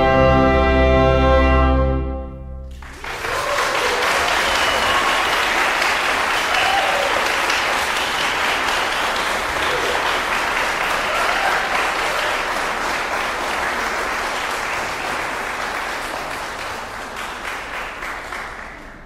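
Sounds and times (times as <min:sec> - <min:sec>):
audience applauding: 0:02.7 - 0:19.0.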